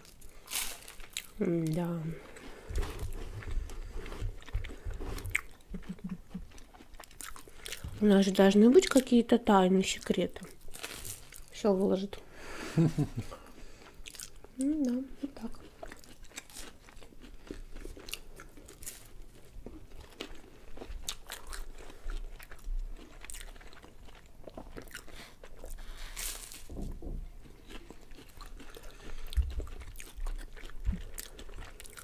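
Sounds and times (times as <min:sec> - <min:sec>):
crunching and chewing pastry: 0:00.0 - 0:09.2, 0:09.9 - 0:11.6, 0:12.9 - 0:32.0.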